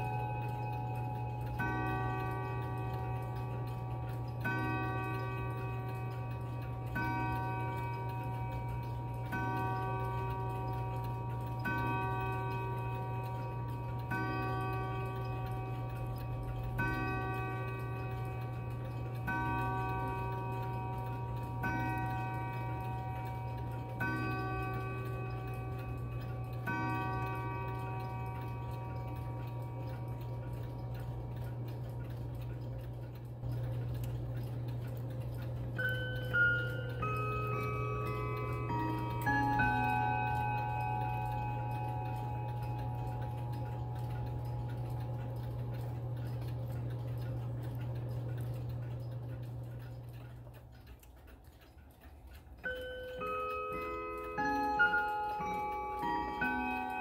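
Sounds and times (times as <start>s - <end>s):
mantel clock striking: 0.0s - 57.0s
steady low hum: 0.0s - 57.0s.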